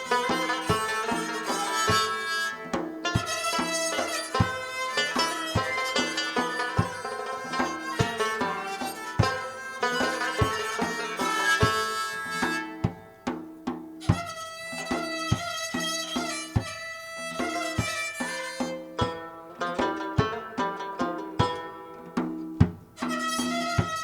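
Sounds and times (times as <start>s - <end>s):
percussion strokes: 0.0s - 24.0s
plucked string instruments: 0.0s - 24.0s.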